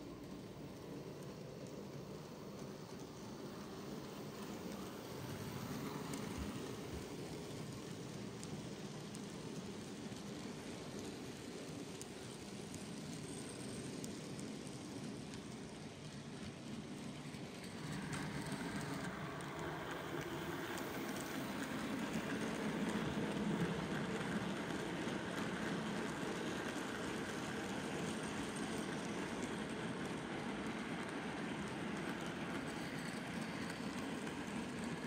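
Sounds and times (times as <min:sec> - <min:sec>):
model train rattling on track: 0:00.0 - 0:35.0.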